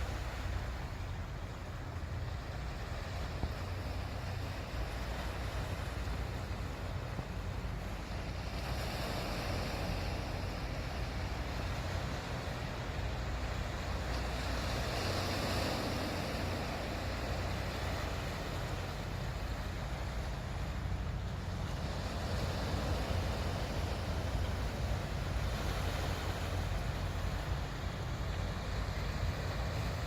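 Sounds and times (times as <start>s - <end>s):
sea waves washing against breakwater: 0.0s - 30.0s
wind rumble on microphone: 0.0s - 30.0s.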